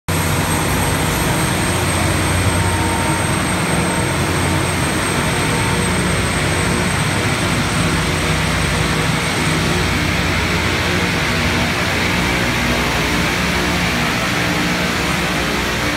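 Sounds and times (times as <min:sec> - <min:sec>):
low engine drone: 0:00.1 - 0:15.9
rail grinder train grinding: 0:00.1 - 0:15.9.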